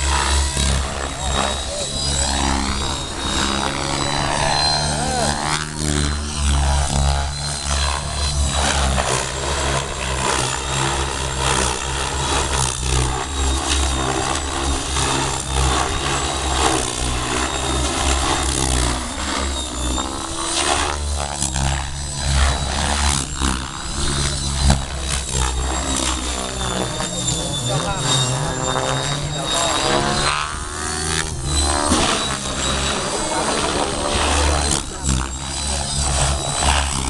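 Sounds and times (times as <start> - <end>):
high-pitched motor whine: 0.0 - 37.0
rotor low drone: 0.0 - 37.0.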